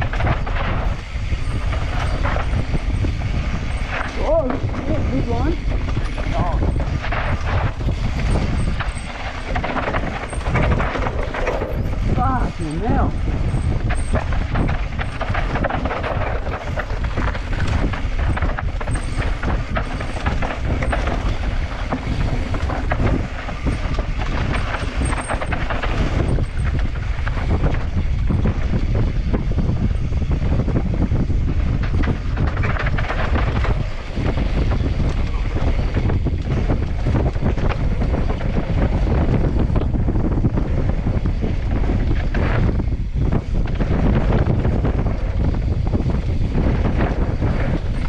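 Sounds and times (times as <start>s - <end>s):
bike rattling and knocking: 0.0s - 48.0s
bike tyres on dirt: 0.0s - 48.0s
wind on microphone: 0.0s - 48.0s.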